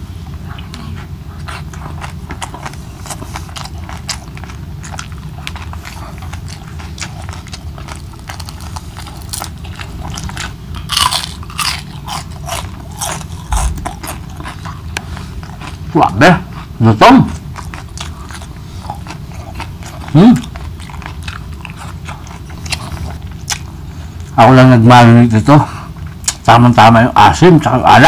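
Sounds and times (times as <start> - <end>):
crunchy chewing and biting: 1.3 - 24.4.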